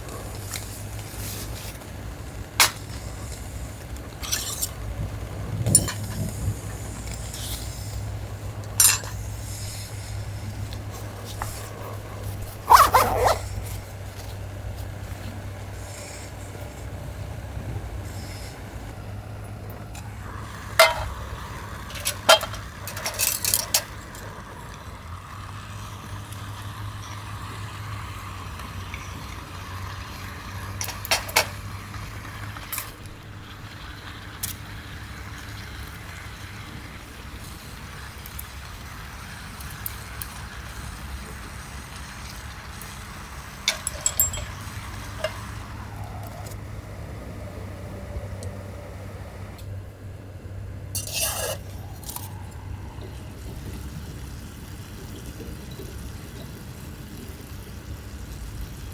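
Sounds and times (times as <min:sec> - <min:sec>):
low background hum: 0:00.0 - 0:58.9
wood fire crackling: 0:00.0 - 0:58.9.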